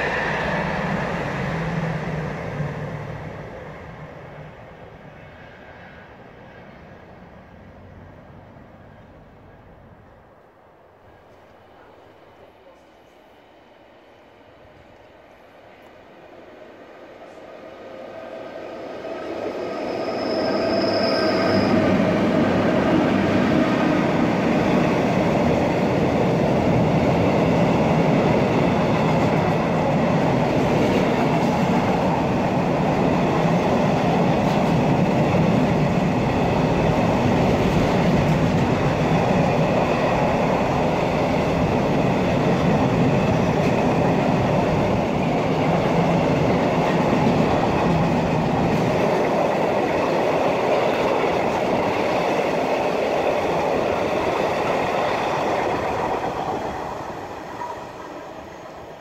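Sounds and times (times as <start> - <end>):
train wheels rumbling on rails: 0.0 - 9.2, 17.1 - 59.0.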